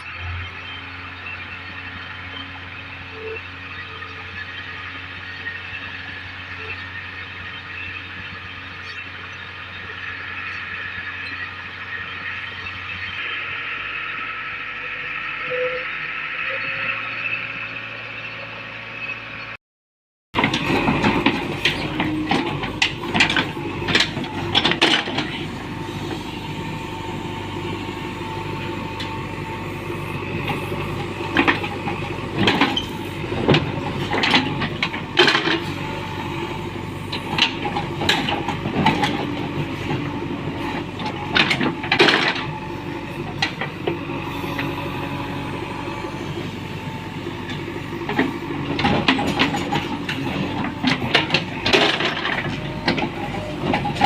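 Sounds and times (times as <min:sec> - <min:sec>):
diesel engine running: 0:00.0 - 0:19.6, 0:20.4 - 0:54.0.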